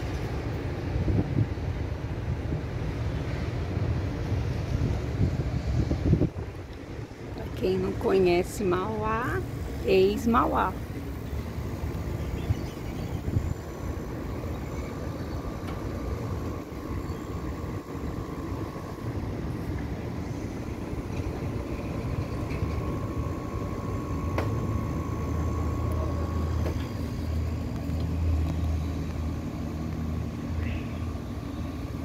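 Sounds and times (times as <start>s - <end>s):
city traffic rumble: 0.0s - 32.0s
faint steady hum: 0.0s - 32.0s.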